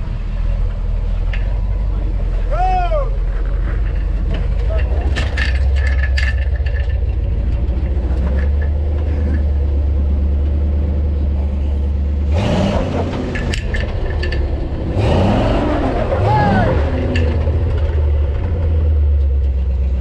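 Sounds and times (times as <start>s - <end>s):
truck engine running and revving: 0.0s - 20.0s.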